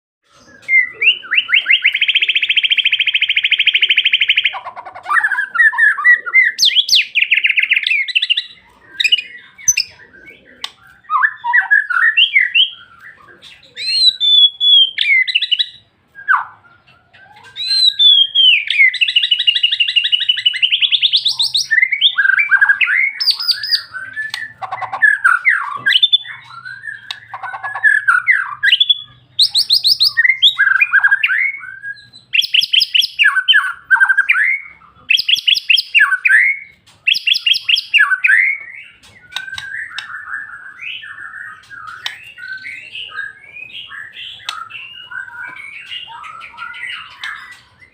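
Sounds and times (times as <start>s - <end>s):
songbird singing whistles and trills: 0.3s - 47.9s.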